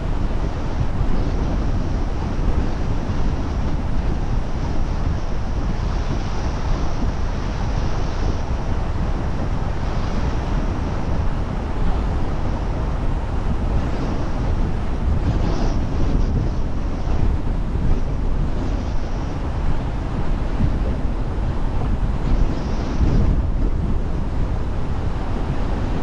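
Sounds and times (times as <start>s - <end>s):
car tyre and road rumble: 0.0s - 26.0s
wind buffeting microphone: 0.0s - 26.0s.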